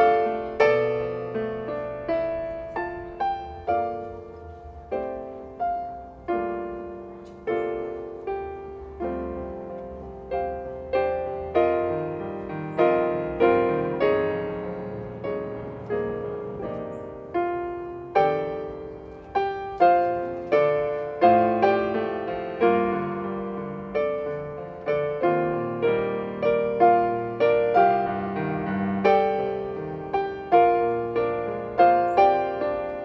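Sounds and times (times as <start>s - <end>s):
slow digital piano piece: 0.0s - 33.0s.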